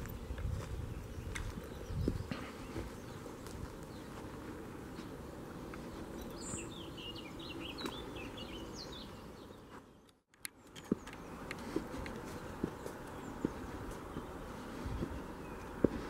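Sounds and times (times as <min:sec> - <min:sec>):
bird chirping: 0:00.0 - 0:16.0
outdoor background noise: 0:00.0 - 0:16.0.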